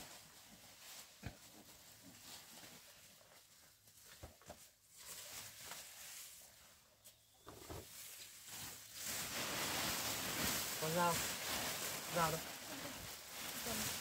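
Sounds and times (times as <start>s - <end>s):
faint rustling: 0.0s - 14.0s.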